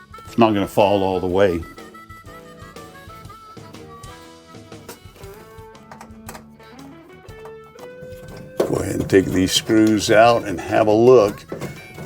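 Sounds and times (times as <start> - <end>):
upbeat jazzy tune with horns: 0.0 - 6.0, 6.7 - 12.0.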